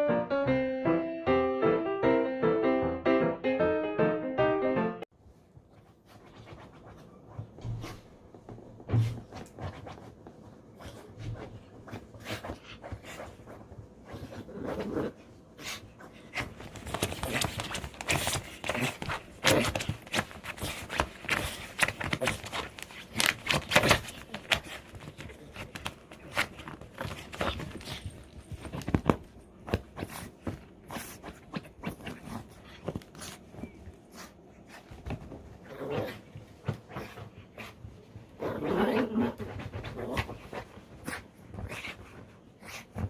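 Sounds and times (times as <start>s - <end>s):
dog rustling and thumping: 5.2s - 43.0s.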